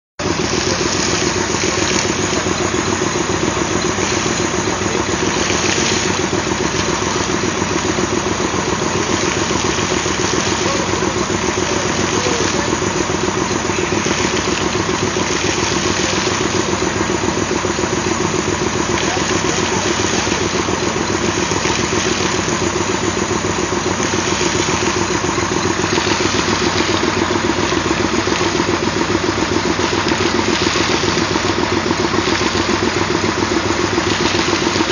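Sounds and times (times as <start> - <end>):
air compressor pulsing: 0.2 - 34.9.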